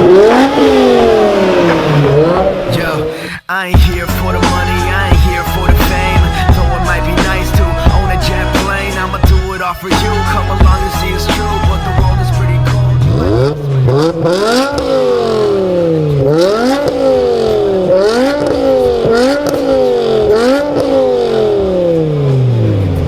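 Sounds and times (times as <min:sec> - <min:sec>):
car engine revving: 0:00.0 - 0:23.0
exhaust cracks: 0:00.0 - 0:23.0.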